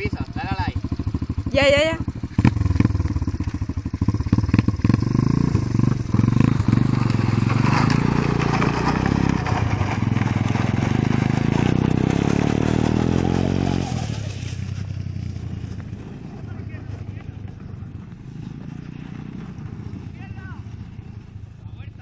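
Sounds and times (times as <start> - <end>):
motorbike engine revving: 0.0 - 21.6.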